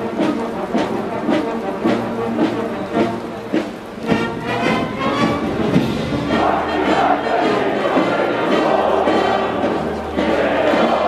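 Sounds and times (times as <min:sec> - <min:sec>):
drum strokes: 0:00.0 - 0:11.0
held brass notes: 0:00.0 - 0:11.0
marching band playing: 0:00.0 - 0:11.0.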